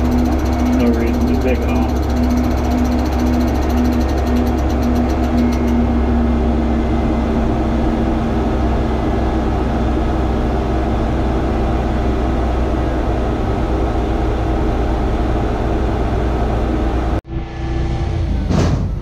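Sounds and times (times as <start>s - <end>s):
crane diesel engine droning: 0.0s - 19.0s.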